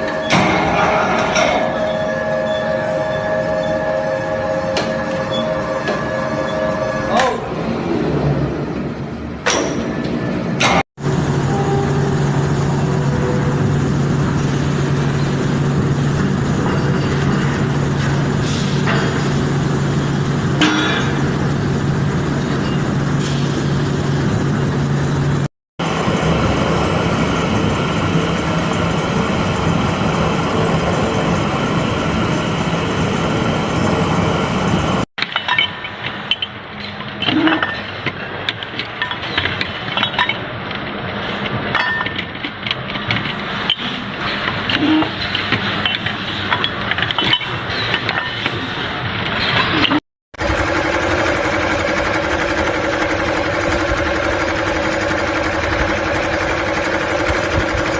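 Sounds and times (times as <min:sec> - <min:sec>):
industrial machinery humming: 0:00.0 - 0:57.9.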